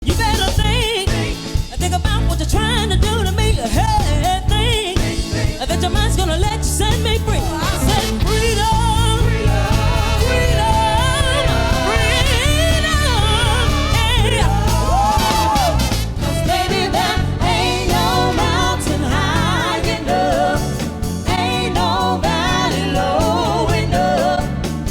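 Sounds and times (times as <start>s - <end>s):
soul song with band: 0.0s - 24.9s.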